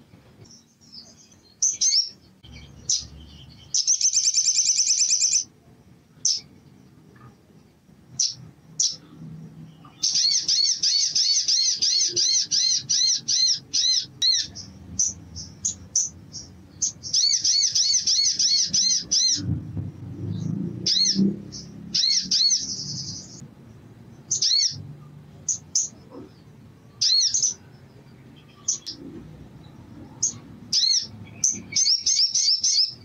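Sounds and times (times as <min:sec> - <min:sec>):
sunbird singing high chirps: 0:00.4 - 0:05.5, 0:06.1 - 0:07.3, 0:08.1 - 0:19.6, 0:20.2 - 0:23.4, 0:24.1 - 0:33.0.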